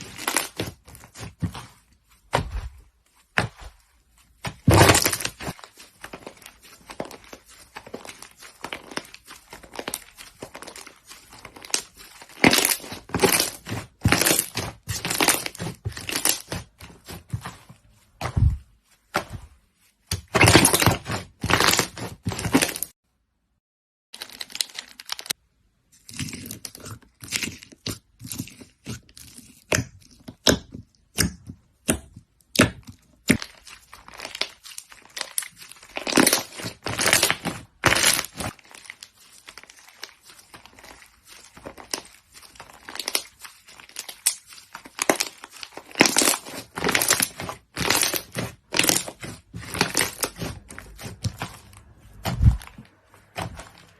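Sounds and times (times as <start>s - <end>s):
hands squishing slime: 0.0s - 22.9s, 24.6s - 53.9s.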